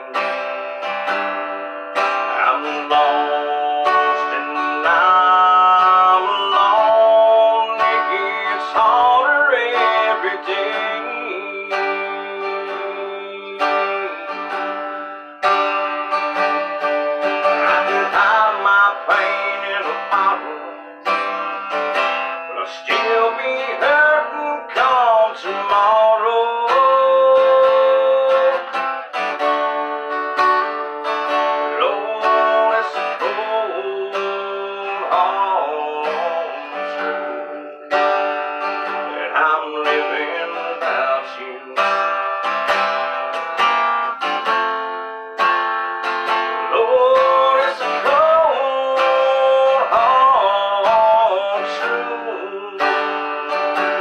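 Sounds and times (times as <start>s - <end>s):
acoustic guitar chords: 0.0s - 54.0s.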